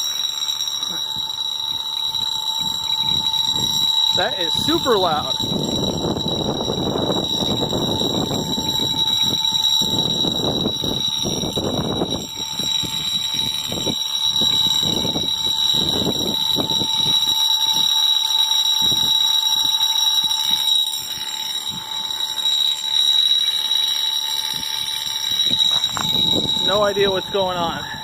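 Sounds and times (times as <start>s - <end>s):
fire alarm bell ringing: 0.0s - 28.0s.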